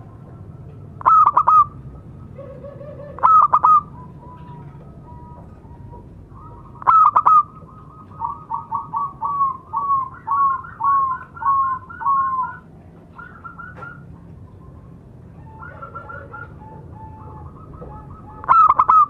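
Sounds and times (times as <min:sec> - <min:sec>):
dove cooing: 0:00.0 - 0:19.0
dove singing sharp notes: 0:00.0 - 0:19.0.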